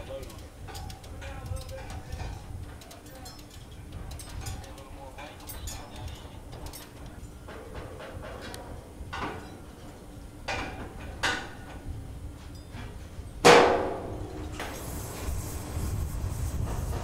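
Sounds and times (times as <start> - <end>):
metal clanking on steel: 0.0 - 14.8.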